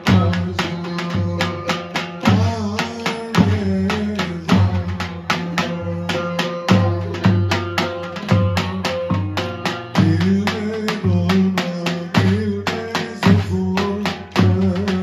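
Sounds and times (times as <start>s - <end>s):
bass drum beating: 0.0s - 15.0s.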